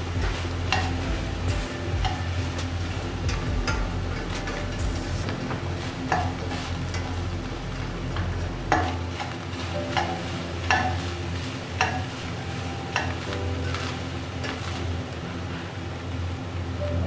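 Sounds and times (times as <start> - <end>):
spatula scraping a pan: 0.0 - 15.0
meat sizzling in a pan: 0.0 - 16.8.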